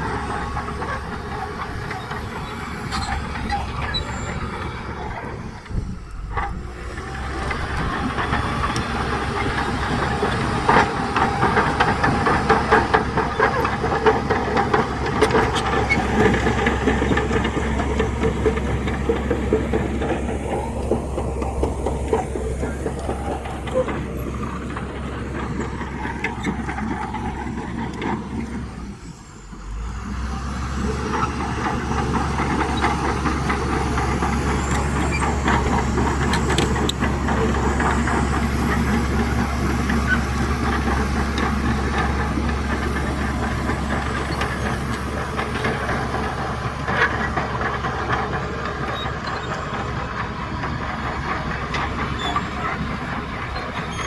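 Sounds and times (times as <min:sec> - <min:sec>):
steel tracks clanking: 0:00.0 - 0:29.9, 0:30.6 - 0:54.0
bulldozer diesel engine rumbling: 0:00.0 - 0:54.0.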